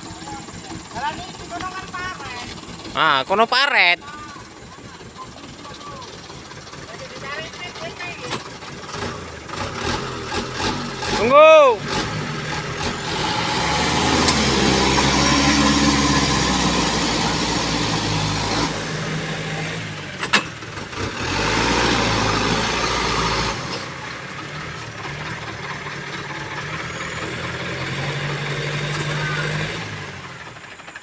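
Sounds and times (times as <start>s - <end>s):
diesel truck engine revving: 0.0s - 31.0s.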